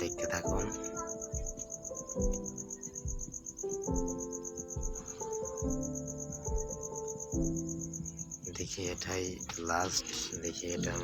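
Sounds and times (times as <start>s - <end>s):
cricket trilling: 0.0s - 11.0s
soft background music: 0.0s - 11.0s.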